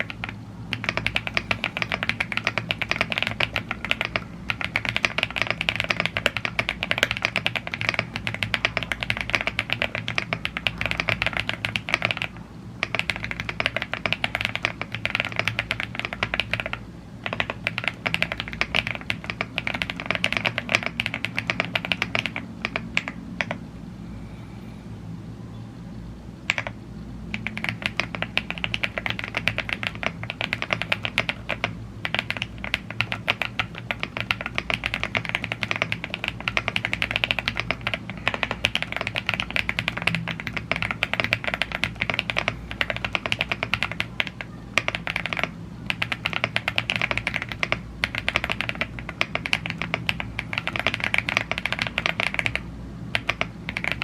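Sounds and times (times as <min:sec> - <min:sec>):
typing on mechanical keyboard: 0:00.0 - 0:23.6, 0:26.5 - 0:54.0.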